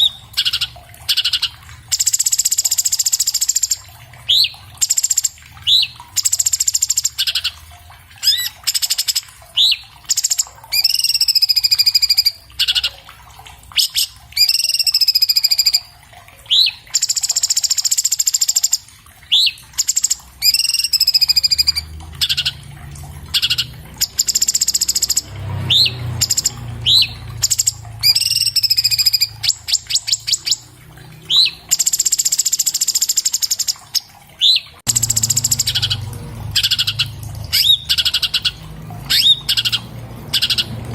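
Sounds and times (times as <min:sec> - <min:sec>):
bird singing varied song: 0:00.0 - 0:07.6, 0:08.2 - 0:13.0, 0:13.8 - 0:15.9, 0:16.5 - 0:22.6, 0:23.3 - 0:30.6, 0:31.2 - 0:40.9.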